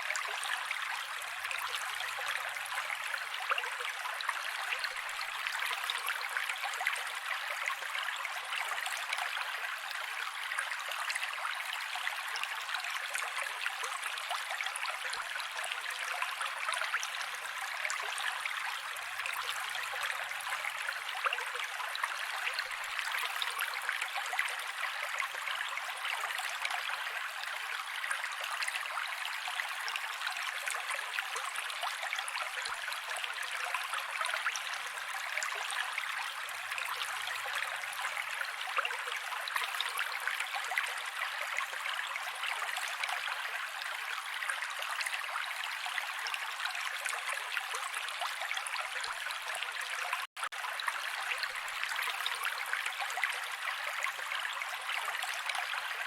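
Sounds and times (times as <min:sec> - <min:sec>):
creek water running over rocks: 0:00.0 - 0:56.0.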